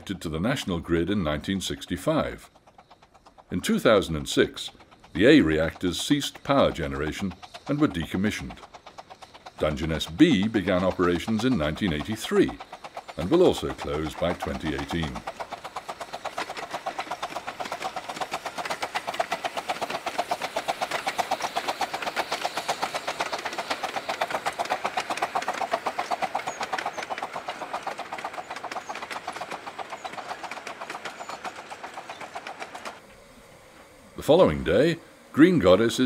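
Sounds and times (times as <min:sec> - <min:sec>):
steam locomotive chuffing past: 0:00.0 - 0:36.0.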